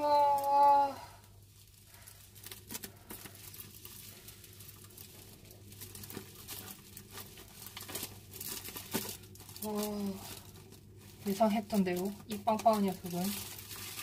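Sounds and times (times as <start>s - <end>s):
plastic crinkling: 0.0s - 14.0s.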